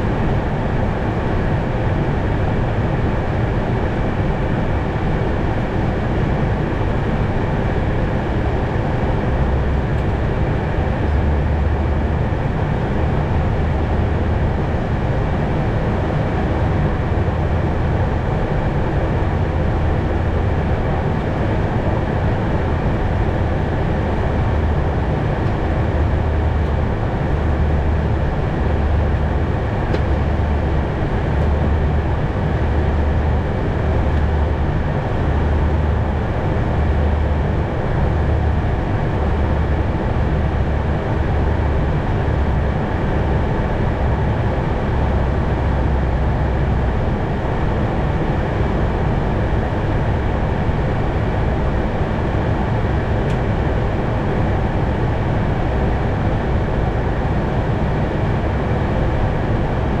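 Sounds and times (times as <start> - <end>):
aircraft airflow and engine drone: 0.0 - 60.0.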